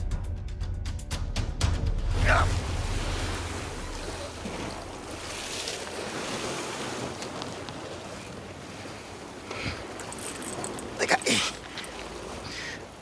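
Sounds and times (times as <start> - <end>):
sea surf on rocky shore: 2.1 - 13.0.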